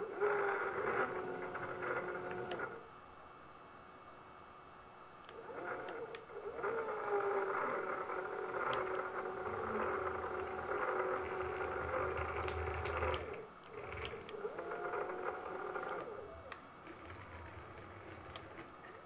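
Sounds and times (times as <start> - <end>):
stepper motors whining: 0.0 - 3.0, 5.2 - 19.0.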